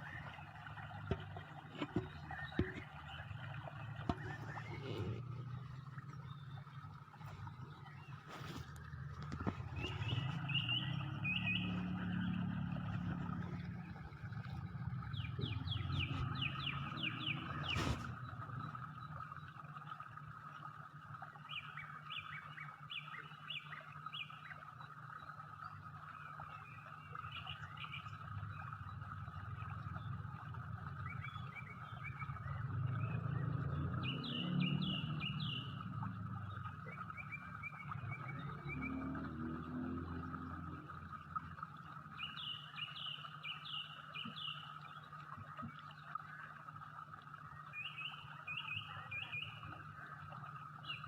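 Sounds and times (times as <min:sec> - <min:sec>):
birds chirping: 0:00.0 - 0:19.6, 0:21.5 - 0:46.6, 0:47.4 - 0:51.0.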